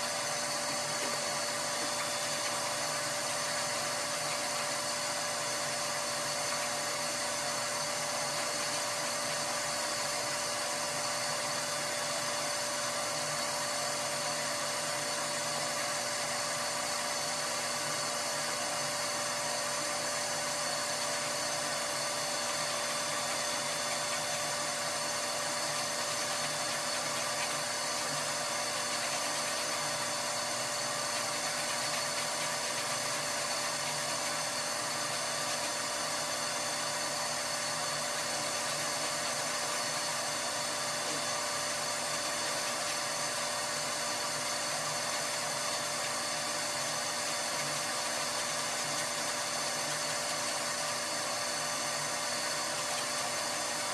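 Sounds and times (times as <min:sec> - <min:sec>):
power tool motor whining: 0:00.0 - 0:53.9.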